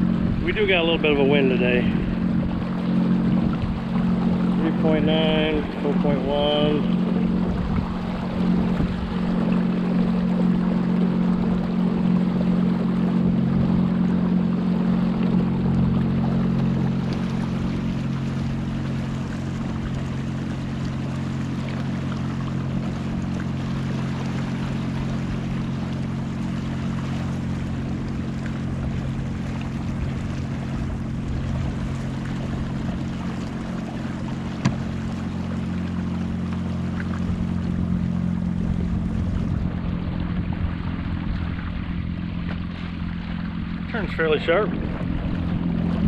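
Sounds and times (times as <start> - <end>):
electric boat motor humming: 0.0 - 46.0
water splashing along hull: 0.0 - 46.0.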